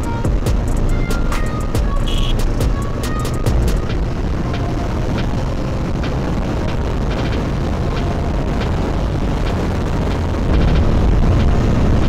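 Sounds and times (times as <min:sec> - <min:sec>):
motorcycle running: 0:00.0 - 0:12.0
wind rushing over microphone: 0:00.0 - 0:12.0.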